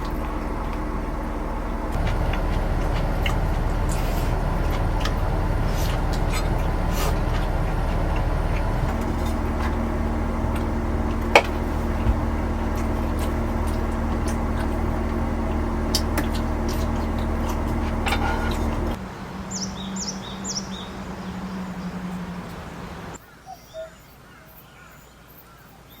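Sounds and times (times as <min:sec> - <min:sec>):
motor humming: 0:00.0 - 0:23.2.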